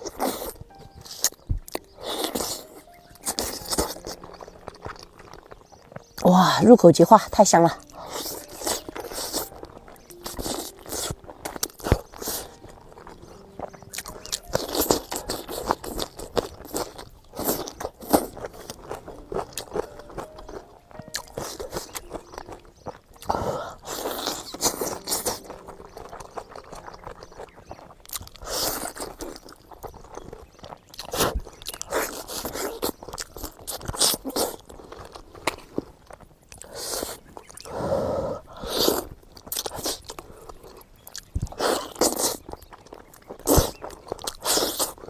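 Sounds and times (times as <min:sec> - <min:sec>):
person chewing and smacking: 0:00.0 - 0:06.3, 0:07.7 - 0:37.8, 0:38.4 - 0:45.0
crunchy bites: 0:00.0 - 0:06.4, 0:07.8 - 0:37.8, 0:38.4 - 0:45.0.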